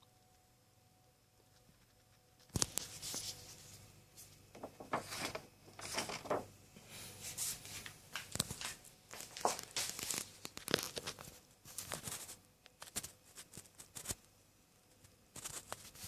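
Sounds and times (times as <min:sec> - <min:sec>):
rustling and scraping handling noises: 0:01.6 - 0:14.3, 0:14.9 - 0:16.0.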